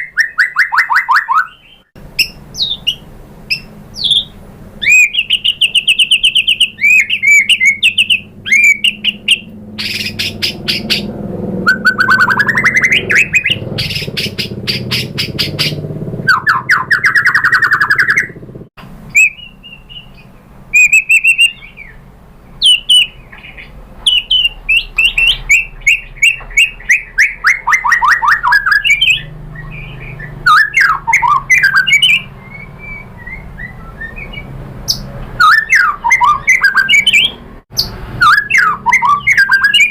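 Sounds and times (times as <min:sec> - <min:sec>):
songbird singing trills and whistles: 0:00.0 - 0:18.4, 0:19.1 - 0:39.9.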